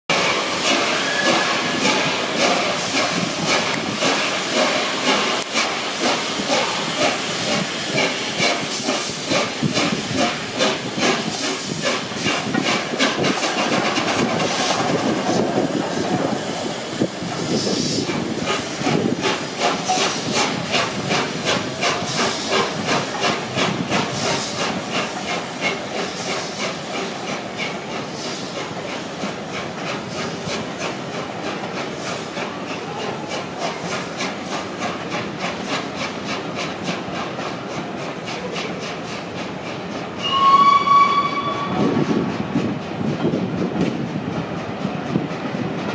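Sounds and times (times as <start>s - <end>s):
steam hissing: 0.1s - 45.7s
steam locomotive exhaust beats: 0.1s - 45.9s.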